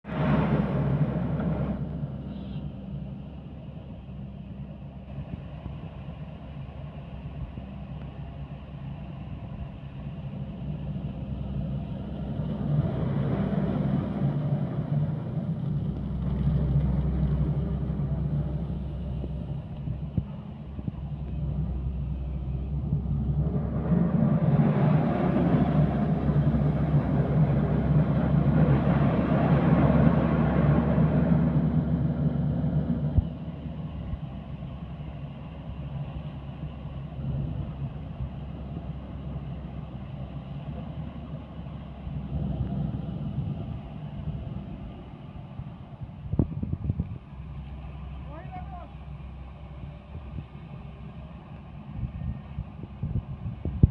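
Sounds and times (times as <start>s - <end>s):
excavator diesel engine humming: 0.0s - 53.9s.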